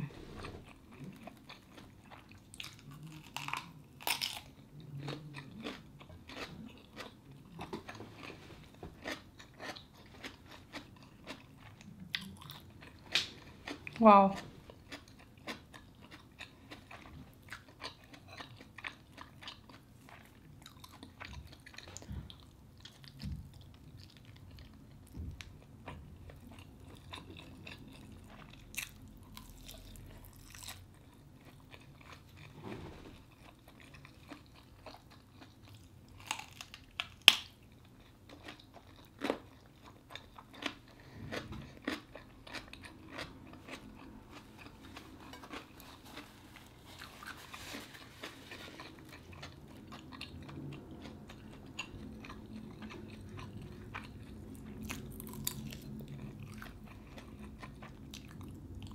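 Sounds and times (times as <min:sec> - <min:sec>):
person chewing sausage: 0:00.1 - 0:58.9.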